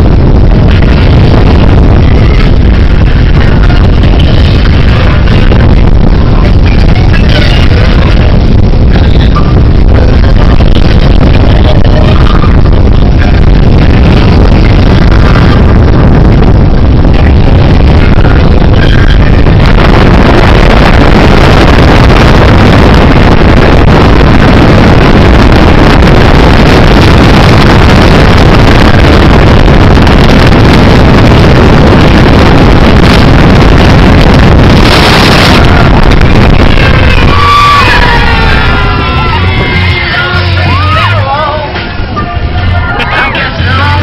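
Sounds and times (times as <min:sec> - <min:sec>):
speedboat engines: 0:00.0 - 0:44.0
water rushing: 0:00.0 - 0:44.0
wind rushing on microphone: 0:00.0 - 0:44.0.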